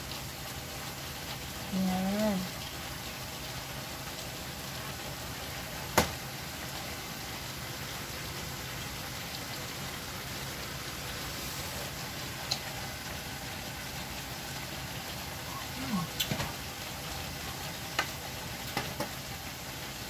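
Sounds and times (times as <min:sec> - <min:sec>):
pot boiling with a hiss: 0:00.0 - 0:20.0.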